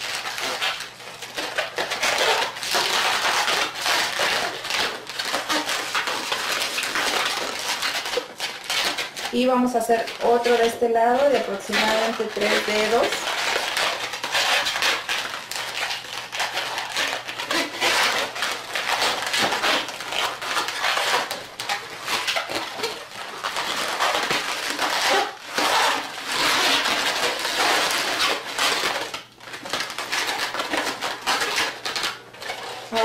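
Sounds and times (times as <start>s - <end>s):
balloon rubbing and crackling: 0.0s - 33.0s.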